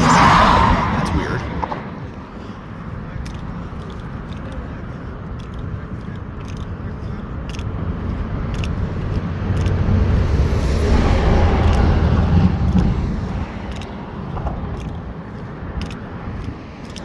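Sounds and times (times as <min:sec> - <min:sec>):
vehicle engine and tyres rumbling: 0:00.0 - 0:17.0
footsteps clicking: 0:01.2 - 0:17.0.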